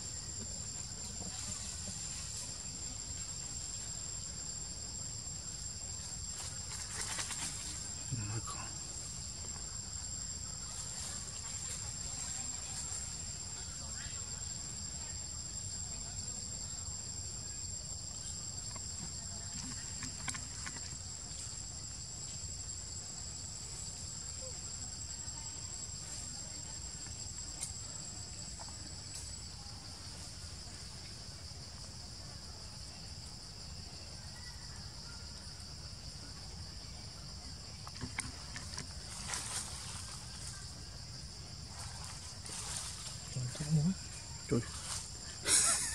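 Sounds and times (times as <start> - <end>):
insects droning: 0.0 - 45.9
thin high insect tone: 0.0 - 45.9.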